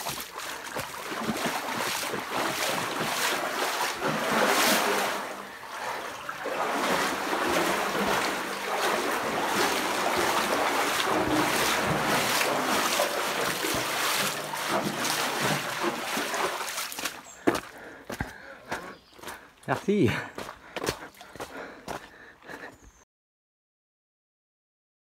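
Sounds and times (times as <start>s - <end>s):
feet splashing through shallow water: 0.0s - 22.8s.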